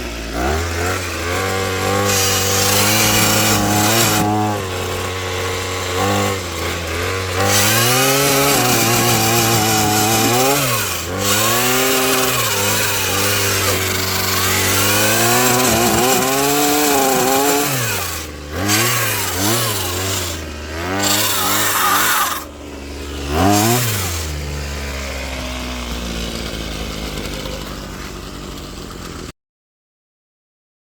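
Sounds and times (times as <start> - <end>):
small gas engine revving: 0.0 - 29.3.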